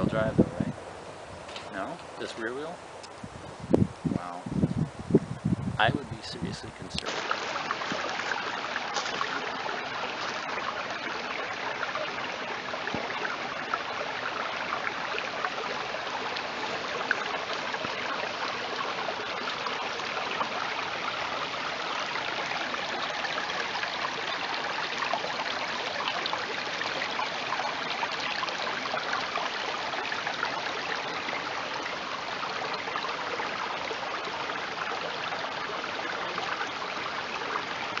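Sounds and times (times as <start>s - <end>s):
creek water running over rocks: 0.0s - 38.0s.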